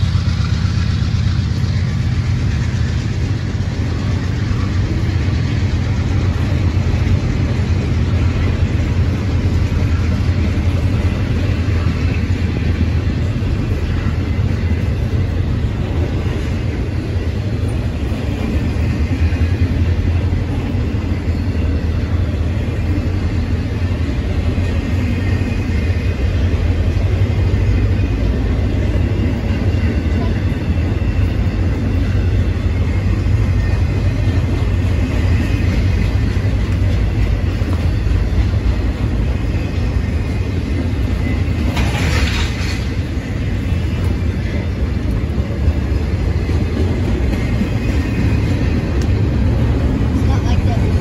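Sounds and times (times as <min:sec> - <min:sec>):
train wheels rolling on rails: 0:00.0 - 0:51.0.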